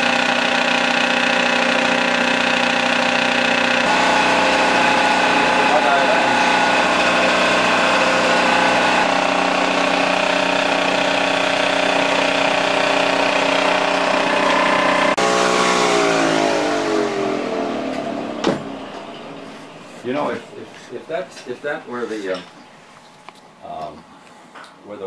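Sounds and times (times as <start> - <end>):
film projector humming: 0.0 - 23.6.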